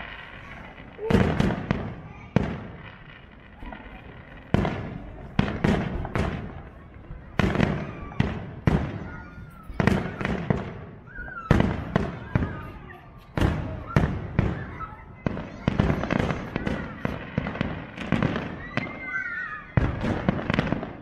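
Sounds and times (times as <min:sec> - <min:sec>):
firework shells bursting: 0:00.0 - 0:20.9.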